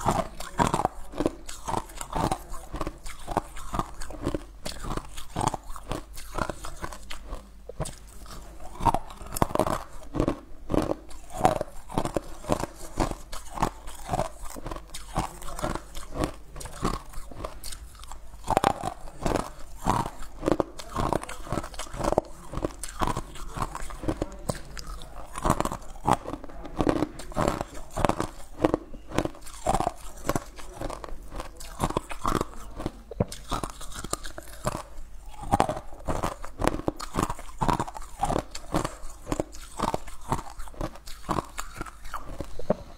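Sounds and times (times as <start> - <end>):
ice cubes crunched by teeth: 0.0 - 42.8.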